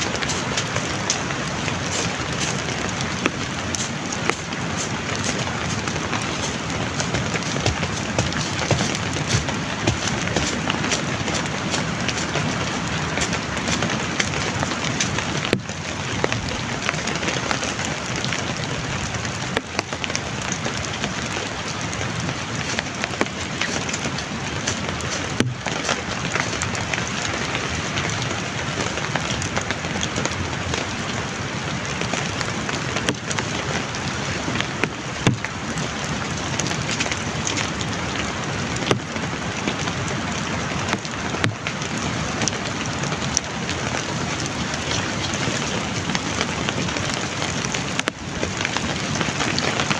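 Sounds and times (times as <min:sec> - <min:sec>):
heavy rain falling: 0:00.0 - 0:49.9
raindrops striking a surface: 0:00.0 - 0:49.9.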